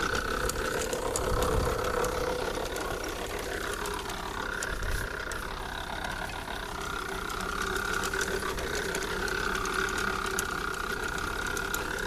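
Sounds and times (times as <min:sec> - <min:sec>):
elevator chain rattling: 0:00.0 - 0:12.0
tractor engine running: 0:00.0 - 0:12.0.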